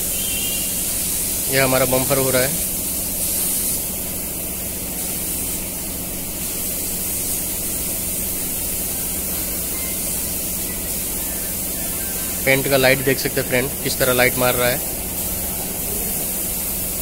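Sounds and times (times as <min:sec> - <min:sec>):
spray gun hissing: 0:00.0 - 0:17.0.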